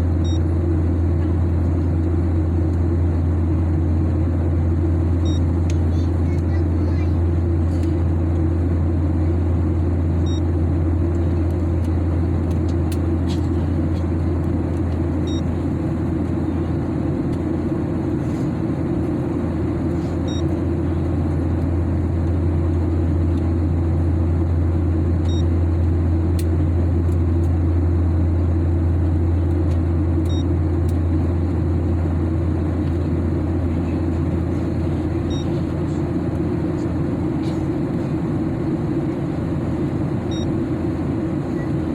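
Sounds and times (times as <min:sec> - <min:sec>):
airliner cabin engine drone: 0:00.0 - 0:41.9.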